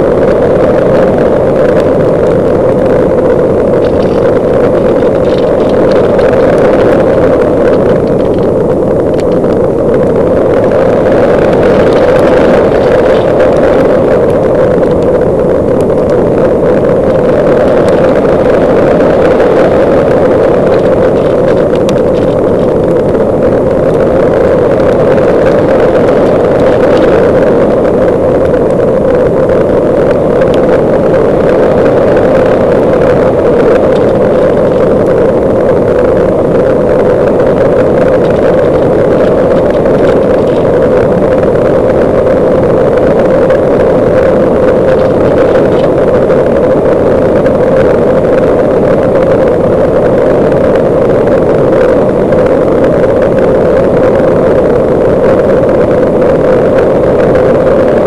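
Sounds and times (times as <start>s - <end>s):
electric motor and propeller droning: 0.0s - 58.0s.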